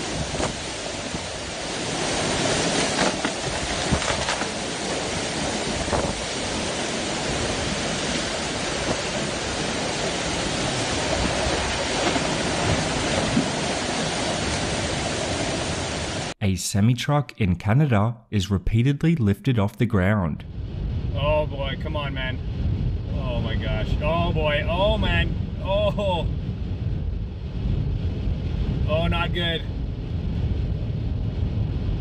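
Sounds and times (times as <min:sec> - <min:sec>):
strong wind buffeting microphone: 0:00.0 - 0:16.3, 0:20.4 - 0:32.0.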